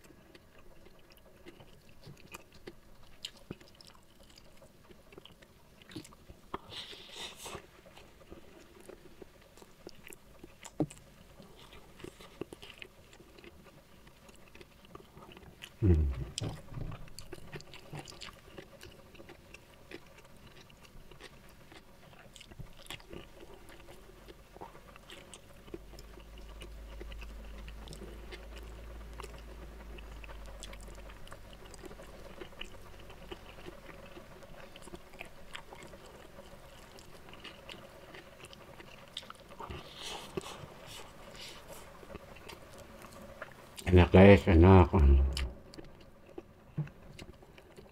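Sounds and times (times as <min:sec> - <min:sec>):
chewing with wet smacks: 0:00.0 - 0:44.0, 0:45.3 - 0:47.9
faint low hum: 0:00.0 - 0:47.9.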